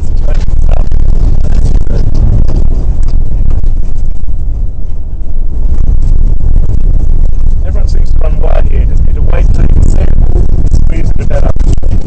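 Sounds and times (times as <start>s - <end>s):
rally car engine and tyre rumble: 0.0s - 12.0s.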